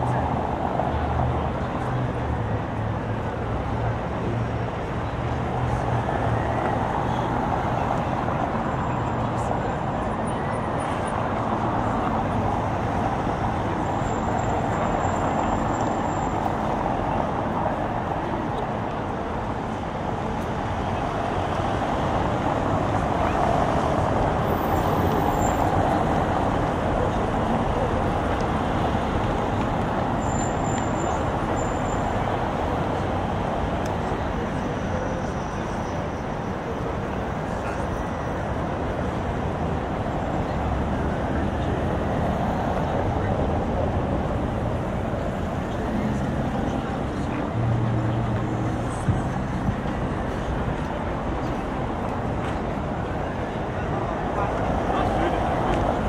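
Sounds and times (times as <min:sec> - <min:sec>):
city traffic noise: 0:00.0 - 0:56.0.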